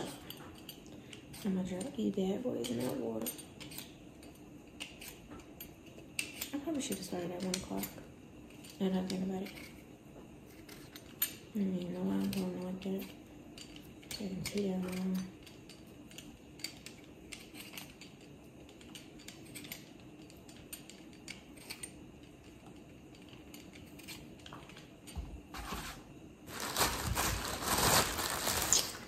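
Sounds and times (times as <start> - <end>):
utensils clicking and knocking: 0.0 - 9.8, 10.5 - 26.9.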